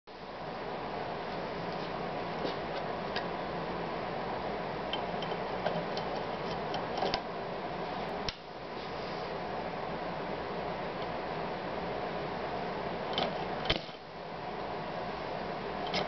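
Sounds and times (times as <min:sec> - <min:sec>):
steady background hum: 0:00.1 - 0:16.0.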